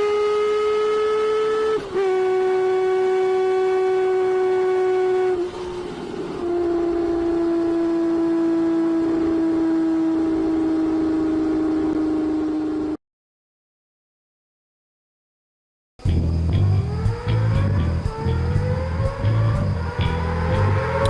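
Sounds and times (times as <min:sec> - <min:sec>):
motorcycle engine revving high: 0:00.0 - 0:13.0, 0:16.0 - 0:21.0.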